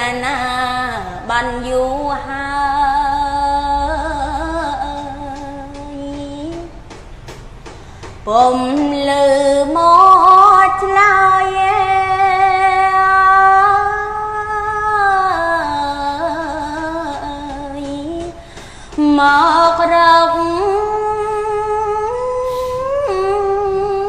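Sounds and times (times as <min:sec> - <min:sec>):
woman chanting: 0:00.0 - 0:06.8, 0:08.2 - 0:24.0.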